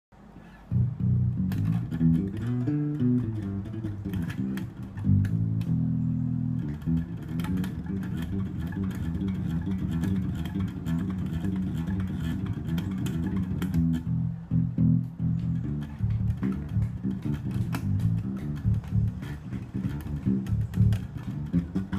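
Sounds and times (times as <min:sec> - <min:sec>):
plucked electric bass notes: 0:00.7 - 0:21.9.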